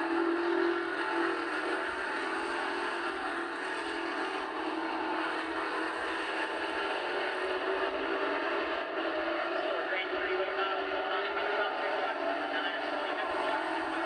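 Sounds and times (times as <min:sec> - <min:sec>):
race truck engines droning: 0:00.0 - 0:14.0.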